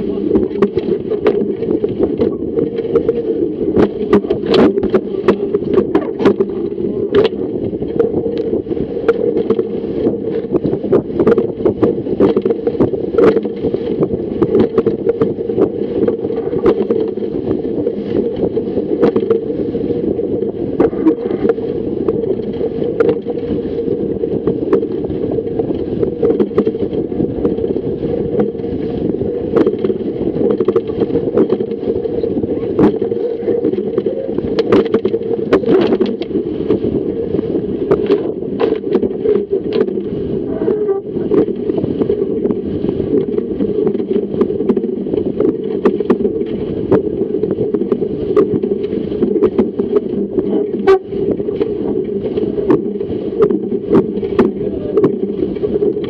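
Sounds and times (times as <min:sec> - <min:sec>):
water rushing past boat hull: 0:00.0 - 0:56.0
waves splashing against boat: 0:00.0 - 0:56.0
wind on microphone: 0:00.0 - 0:56.0.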